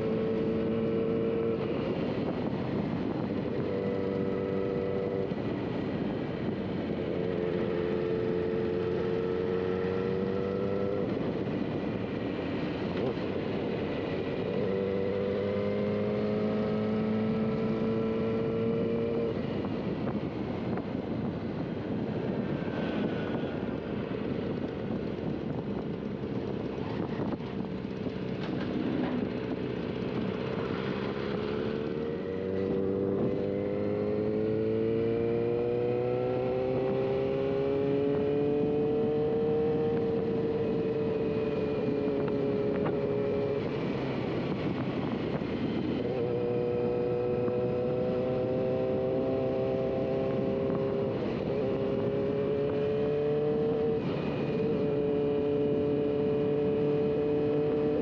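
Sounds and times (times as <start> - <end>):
motorcycle engine accelerating: 0.0 - 58.0
steady rushing noise: 0.0 - 58.0.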